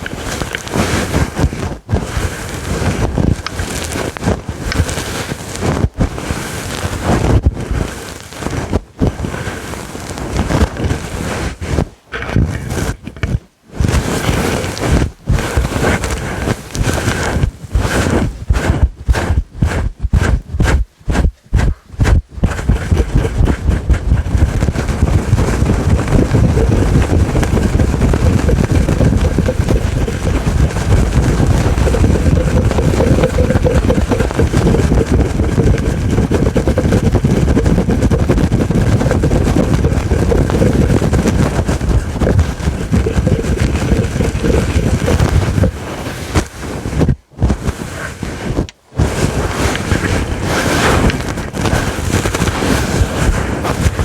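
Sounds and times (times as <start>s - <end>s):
fingers scratching mic windscreen: 0.0s - 54.0s.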